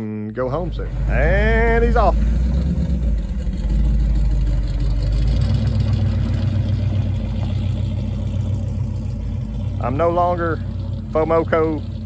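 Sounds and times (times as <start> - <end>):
truck engine exhaust rumble: 0.0 - 12.0.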